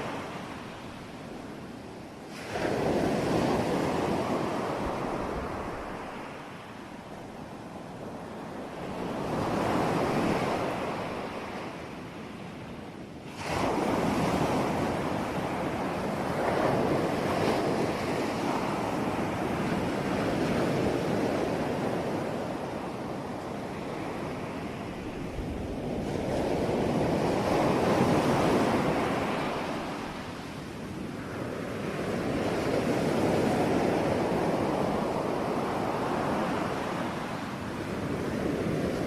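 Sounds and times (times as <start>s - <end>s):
ocean waves breaking on shore: 0.0s - 39.0s.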